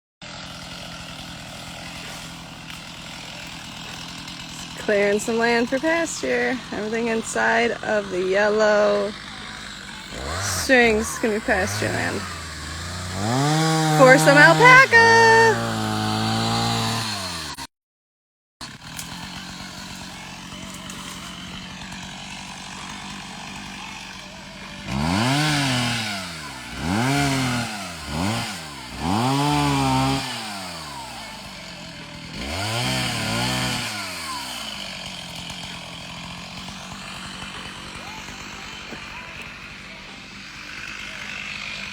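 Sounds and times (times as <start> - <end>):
chainsaw idling and revving: 0.2 - 17.7, 18.6 - 41.9.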